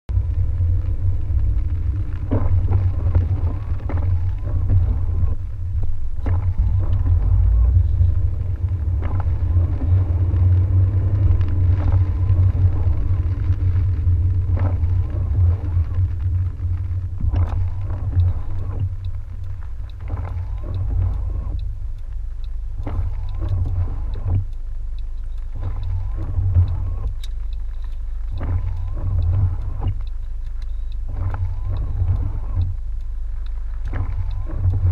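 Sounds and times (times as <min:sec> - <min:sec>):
car cabin rumble on wet road: 0:00.1 - 0:34.9
light taps and clicks: 0:00.6 - 0:34.9.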